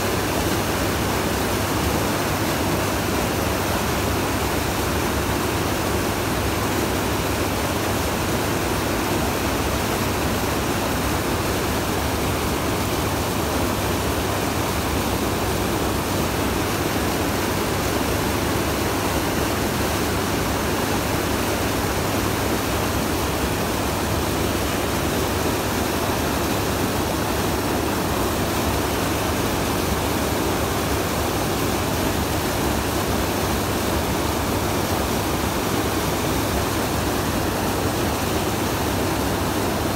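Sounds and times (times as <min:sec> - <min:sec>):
water rushing in boat wake: 0:00.0 - 0:39.9.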